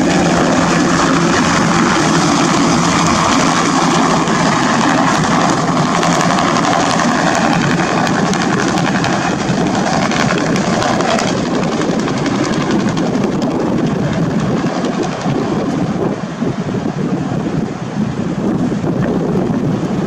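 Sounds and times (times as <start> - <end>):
helicopter engine: 0.0 - 17.5
helicopter rotor chopping: 0.0 - 20.0.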